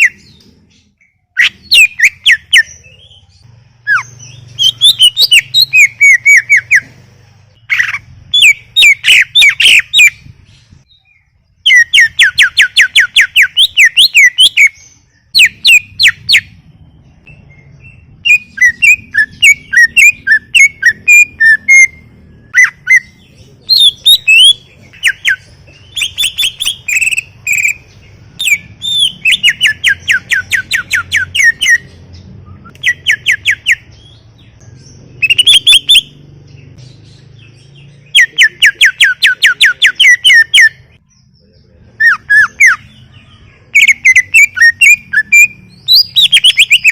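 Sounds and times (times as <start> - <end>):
bird singing rapid chirps and trills: 0.0 - 46.9.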